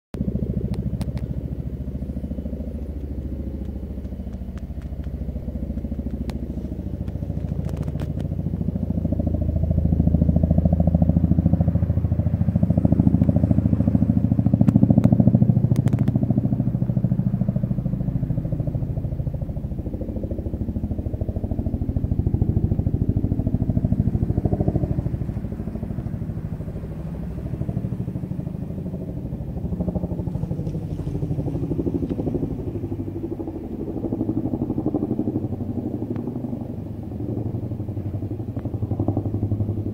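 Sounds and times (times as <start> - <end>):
helicopter rotor beat: 0.2 - 39.9.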